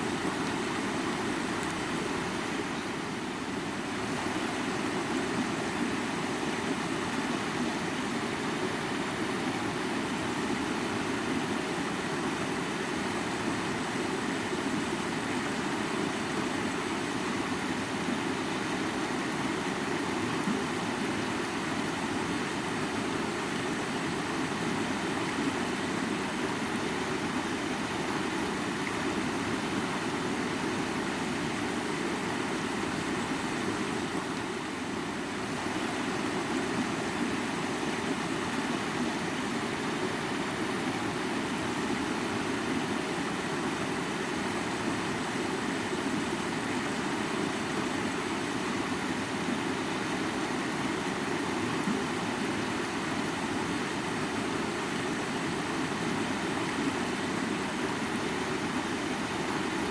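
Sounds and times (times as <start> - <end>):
mountain river flowing: 0.0 - 59.9.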